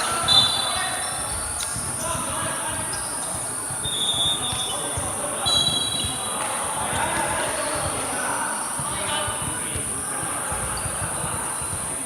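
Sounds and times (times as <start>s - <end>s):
basketball bouncing: 0.0s - 12.0s
shoes squeaking on floor: 0.0s - 12.0s.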